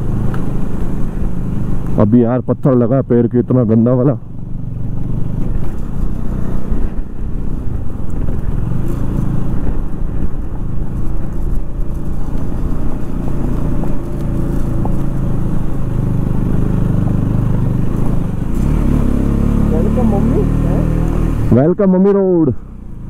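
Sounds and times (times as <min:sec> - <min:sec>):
motorcycle engine running: 0:00.0 - 0:23.0
tyres on rough gravel: 0:00.0 - 0:23.0.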